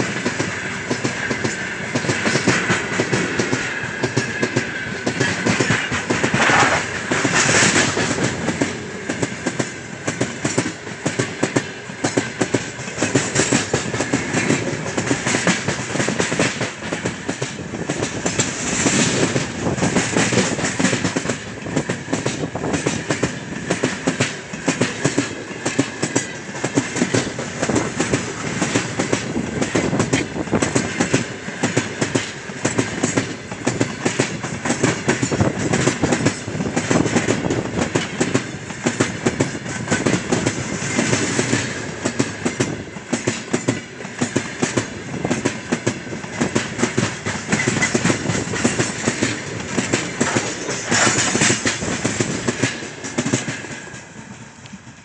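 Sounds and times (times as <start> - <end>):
train wheels clattering: 0.0 - 55.0.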